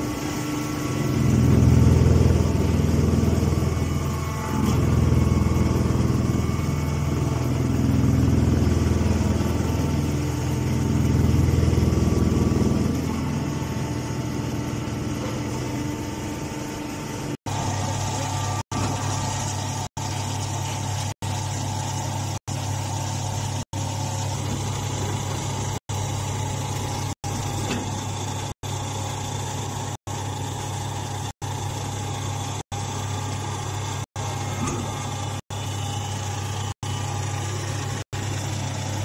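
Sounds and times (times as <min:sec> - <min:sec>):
hydraulic power unit humming: 0:00.0 - 0:39.0.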